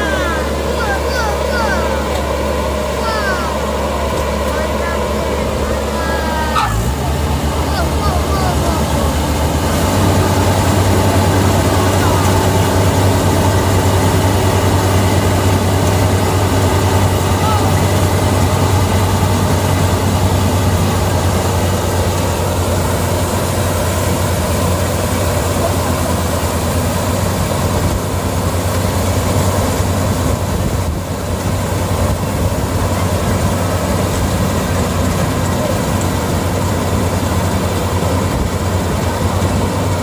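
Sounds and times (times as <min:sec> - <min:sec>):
combine harvester engine humming: 0:00.0 - 0:40.0.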